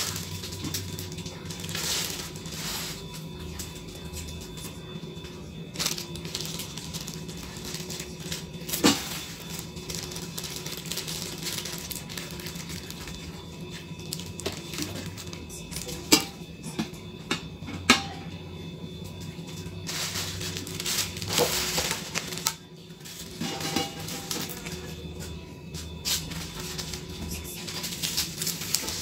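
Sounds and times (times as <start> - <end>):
plastic wrapping rustling: 0.0 - 4.7, 5.6 - 16.3, 19.8 - 25.0, 26.0 - 29.0.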